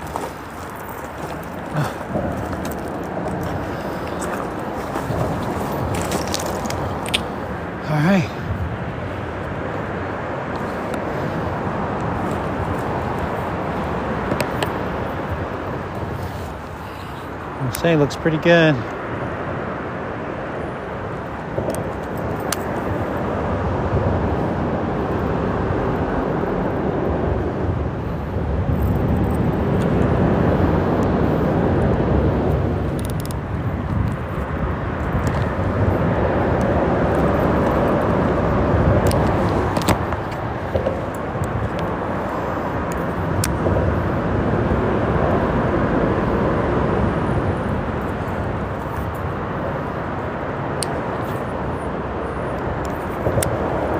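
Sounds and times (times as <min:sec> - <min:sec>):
freeway traffic passing: 0:00.0 - 0:53.9.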